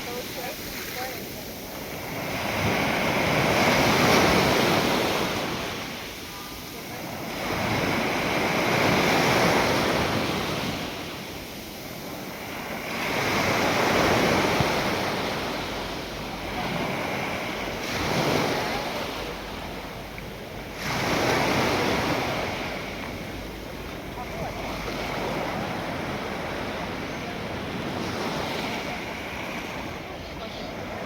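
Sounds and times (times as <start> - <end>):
sea waves breaking on shore: 0.0 - 31.0.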